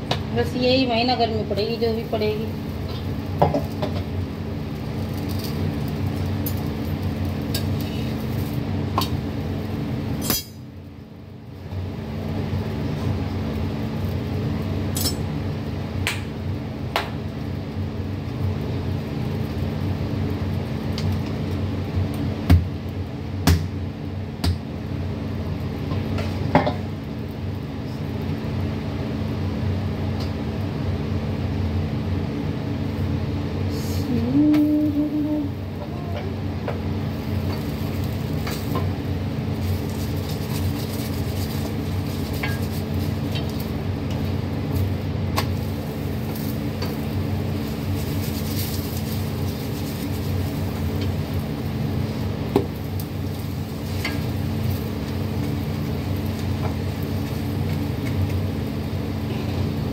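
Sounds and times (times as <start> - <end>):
electric fan humming: 0.0 - 59.9.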